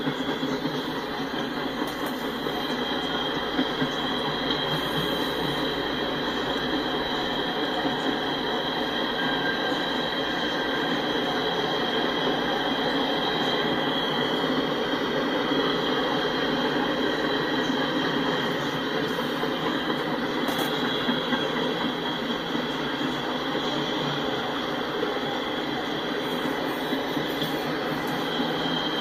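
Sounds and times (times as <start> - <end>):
high wheel squeal: 0.0 - 29.0
train wheels rumbling on rail: 0.0 - 29.0.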